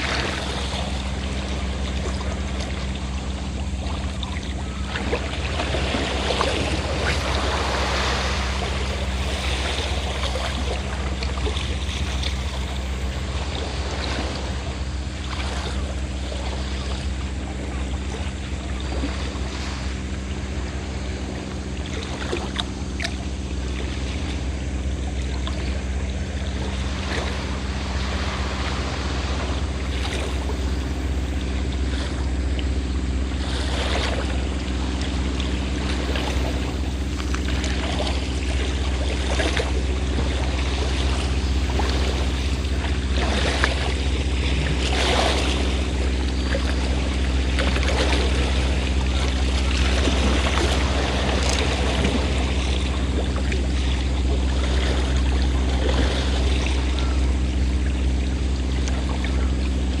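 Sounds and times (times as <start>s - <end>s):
boat engine droning: 0.0s - 60.0s
waves lapping and splashing: 0.0s - 60.0s.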